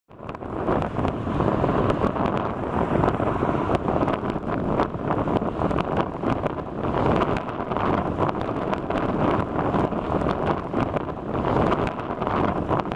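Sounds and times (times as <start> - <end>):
strong wind buffeting microphone: 0.1 - 12.9.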